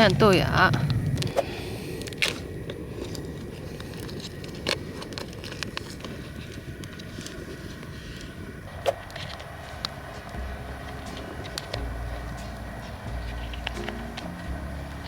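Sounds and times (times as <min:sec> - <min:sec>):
soup simmering low rumble: 0:00.0 - 0:15.0.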